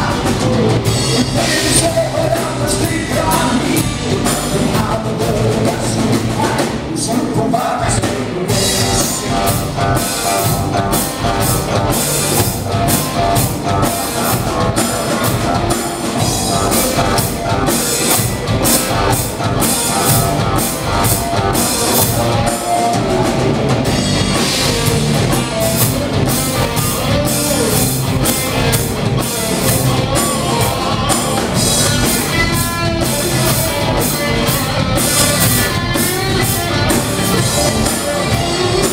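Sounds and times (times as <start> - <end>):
drum kit rock rhythm: 0.0 - 38.9
electric guitars: 0.0 - 38.9.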